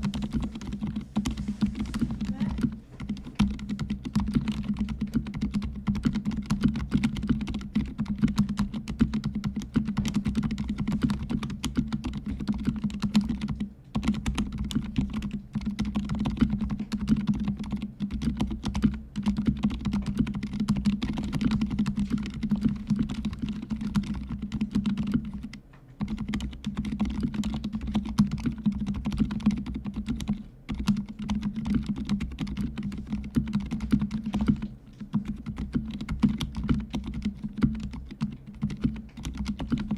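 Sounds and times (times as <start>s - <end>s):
soft mechanical keyboard typing: 0.0s - 39.9s.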